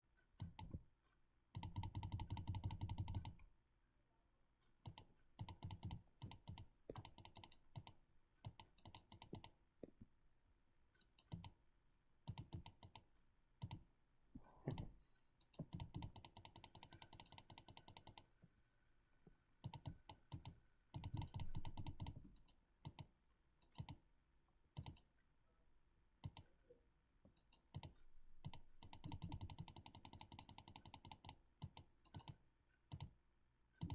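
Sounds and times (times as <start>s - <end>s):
computer mouse clicking: 0.3s - 3.5s, 4.6s - 10.1s, 10.9s - 11.6s, 12.2s - 18.5s, 19.6s - 24.1s, 24.7s - 25.2s, 26.2s - 33.9s.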